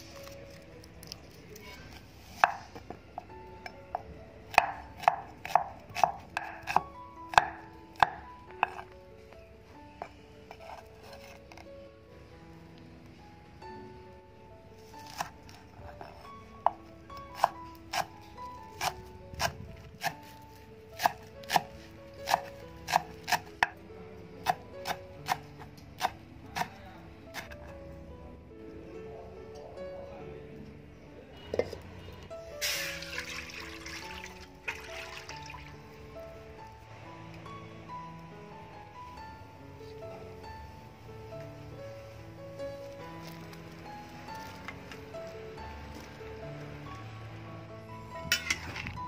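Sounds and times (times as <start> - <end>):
faint music: 0.0 - 49.0.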